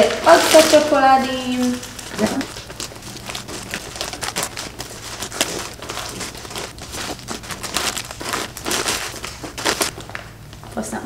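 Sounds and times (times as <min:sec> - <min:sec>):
plastic bag crinkling: 0:00.0 - 0:10.8
sweet wrappers crackling: 0:00.0 - 0:11.0.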